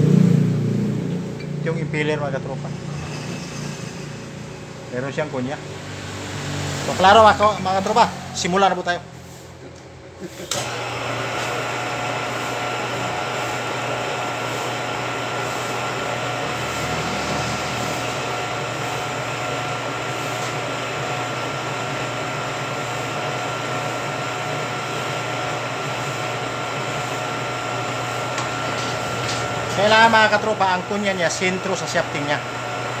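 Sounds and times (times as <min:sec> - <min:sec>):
milling machine whining: 0:01.2 - 0:33.0.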